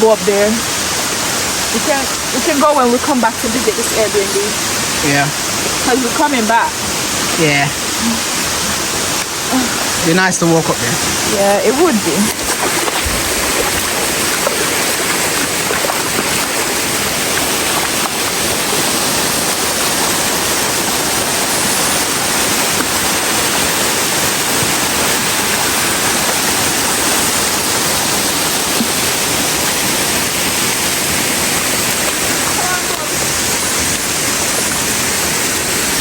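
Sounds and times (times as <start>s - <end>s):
waterfall roaring: 0.0s - 36.0s.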